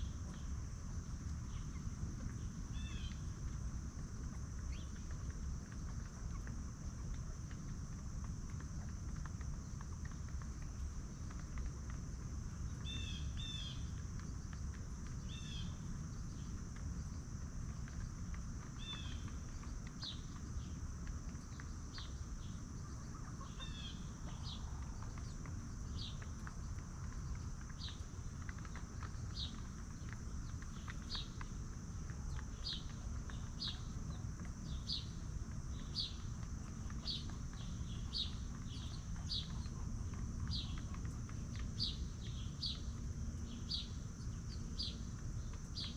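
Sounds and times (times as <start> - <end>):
high insect drone: 0.0 - 45.9
low background rumble: 0.0 - 45.9
small birds chirping: 0.0 - 45.9.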